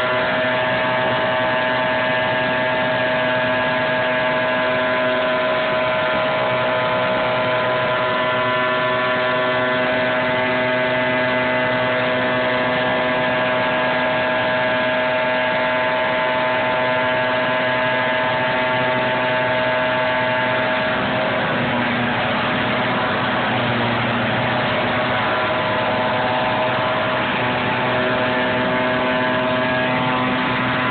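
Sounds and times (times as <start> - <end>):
leaf vacuum engine whining: 0.0 - 30.9.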